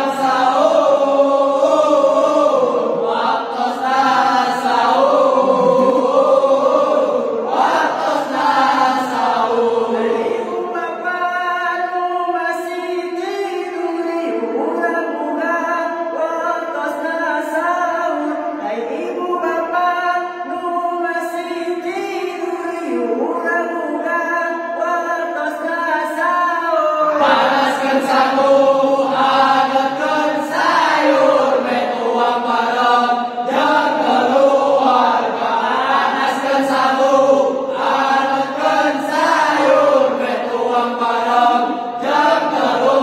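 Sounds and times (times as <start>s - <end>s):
young men singing a cappella: 0.0s - 43.0s.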